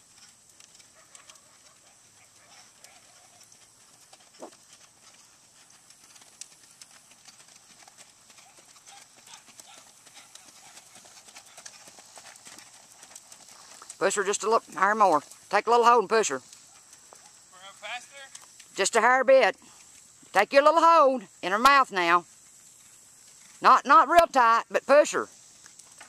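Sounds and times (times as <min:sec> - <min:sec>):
horse hooves on packed dirt: 0:00.0 - 0:26.0.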